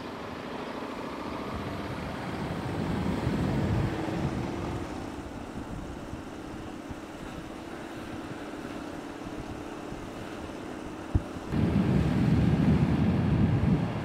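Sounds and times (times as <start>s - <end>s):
road and air noise: 0.0s - 14.0s
vehicle engine hum: 0.0s - 14.0s.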